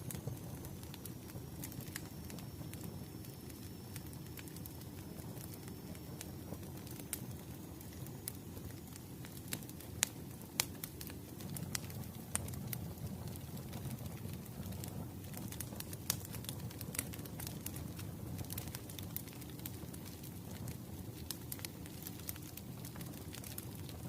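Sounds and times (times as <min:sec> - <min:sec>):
burning logs crackling and popping: 0:00.0 - 0:24.0
rush of flames: 0:00.0 - 0:24.0.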